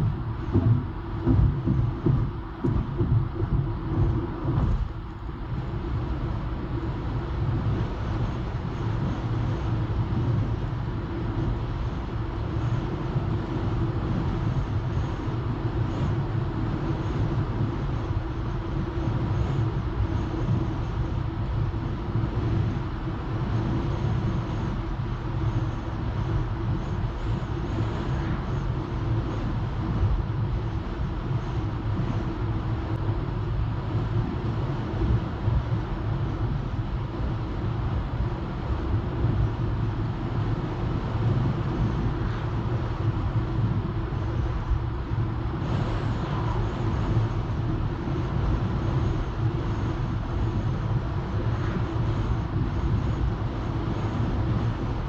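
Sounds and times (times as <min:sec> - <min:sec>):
car tyres rumbling on road: 0:00.0 - 0:55.0.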